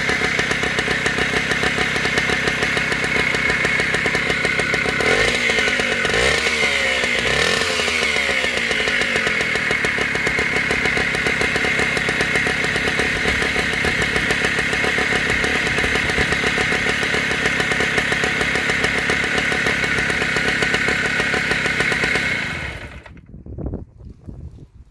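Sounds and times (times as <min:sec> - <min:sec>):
outboard engine running: 0:00.0 - 0:23.3.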